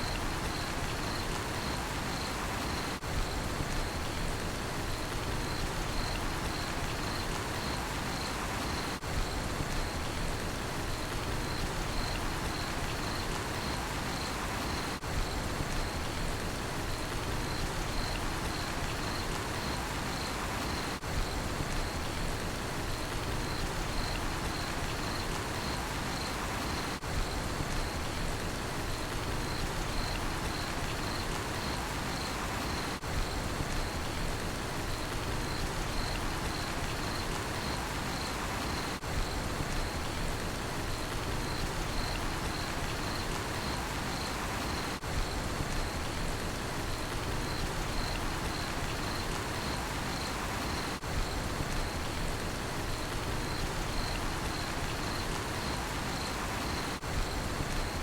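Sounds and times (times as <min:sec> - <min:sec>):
crickets chirping: 0:00.0 - 0:10.2, 0:10.8 - 0:58.0
steady rainfall: 0:00.0 - 0:58.0.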